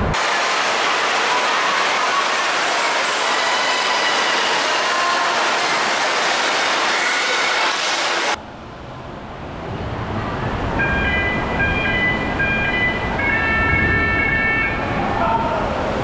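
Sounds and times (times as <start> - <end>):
hollow rumble of indoor water park: 0.0 - 16.0.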